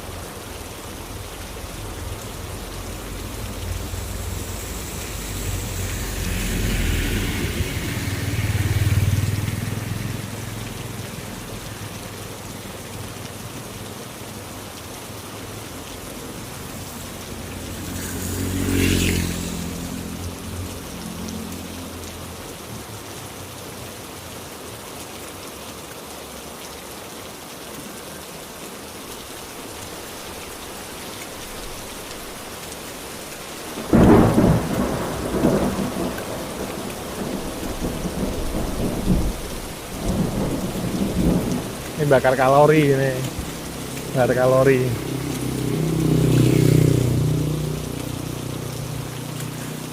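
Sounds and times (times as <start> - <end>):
heavy rain: 0.0 - 49.9
vehicles passing on wet road: 0.0 - 49.9.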